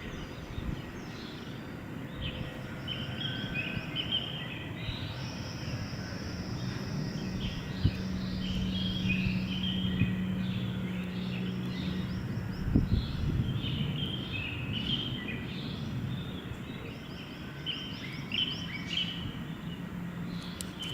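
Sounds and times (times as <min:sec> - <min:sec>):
low outdoor rumble: 0:00.0 - 0:20.9
low steady hum: 0:00.0 - 0:20.9
small birds chirping: 0:00.0 - 0:20.9.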